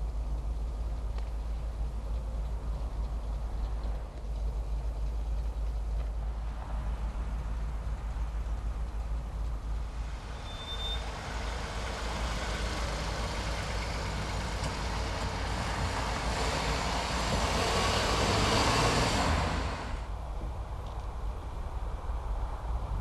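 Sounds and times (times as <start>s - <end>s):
road vehicle rumbling: 0.0s - 23.0s.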